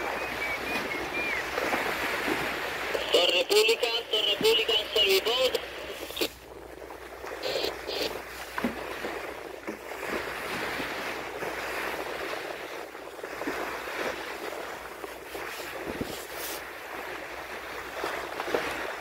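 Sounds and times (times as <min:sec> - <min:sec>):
ship bow wave rushing water: 0:00.0 - 0:19.0.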